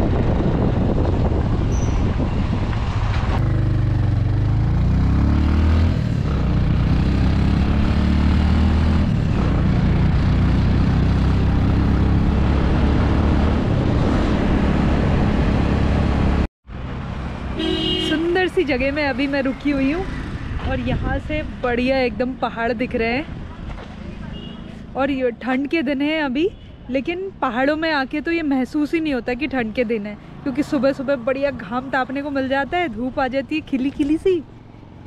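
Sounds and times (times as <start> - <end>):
road and wind noise: 0.0 - 35.0.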